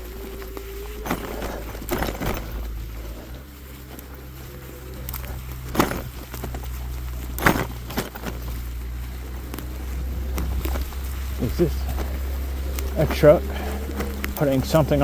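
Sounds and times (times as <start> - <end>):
bike knocks and rattles: 0.0 - 15.0
e-bike low rumble: 0.0 - 15.0.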